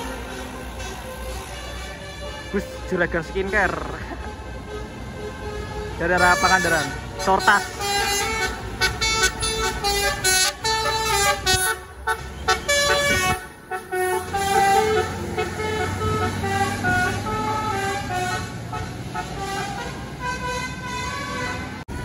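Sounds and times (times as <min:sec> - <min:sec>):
bus engine: 0:00.0 - 0:22.0
bus musical horn: 0:00.0 - 0:22.0.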